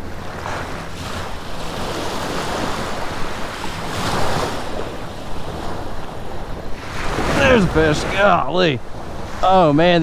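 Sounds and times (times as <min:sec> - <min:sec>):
small waves lapping at shore: 0:00.0 - 0:10.0
wind buffeting microphone: 0:00.0 - 0:10.0.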